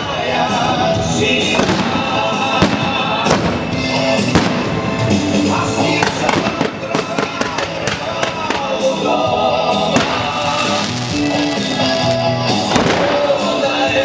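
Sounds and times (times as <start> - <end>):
loud music: 0.0 - 14.0
fireworks banging: 0.5 - 14.0.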